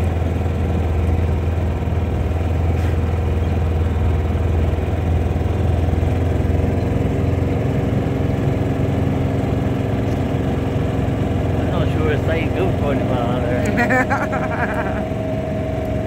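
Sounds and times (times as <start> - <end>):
rumble of driving on dirt road: 0.0 - 16.0
vehicle engine droning: 0.0 - 16.0.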